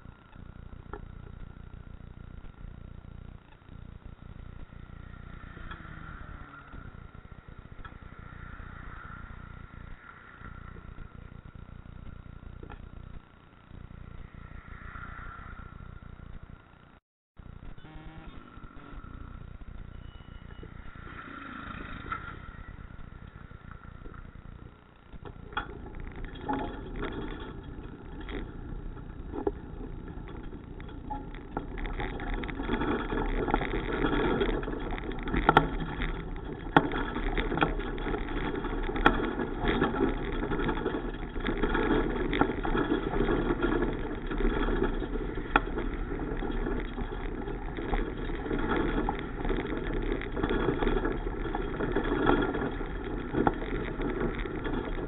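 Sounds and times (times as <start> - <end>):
bicycle clicks and rattles: 0.0 - 16.6, 18.4 - 55.0
road and wind noise: 0.0 - 55.0.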